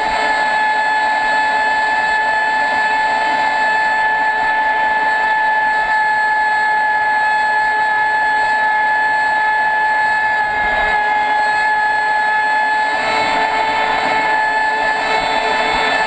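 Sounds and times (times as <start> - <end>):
electric motor high whine: 0.0 - 16.0.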